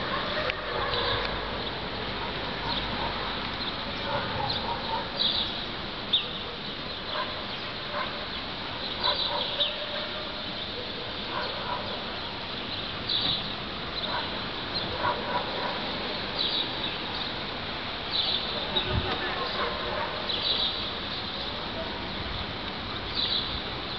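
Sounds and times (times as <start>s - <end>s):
steady background noise: 0.0s - 23.9s
birds chirping: 0.8s - 23.9s.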